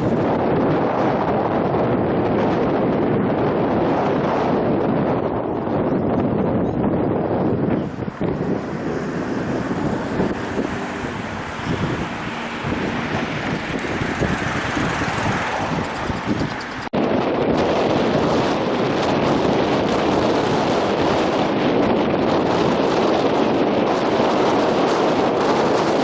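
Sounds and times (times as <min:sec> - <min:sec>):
continuous rushing noise: 0:00.0 - 0:26.0
wind buffeting microphone: 0:00.0 - 0:26.0.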